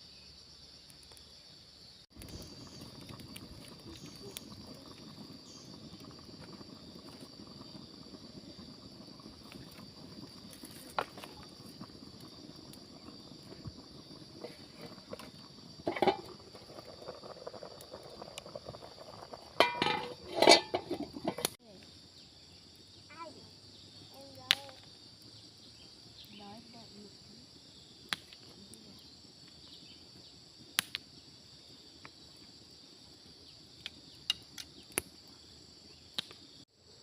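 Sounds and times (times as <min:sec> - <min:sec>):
high insect drone: 0:00.0 - 0:37.0.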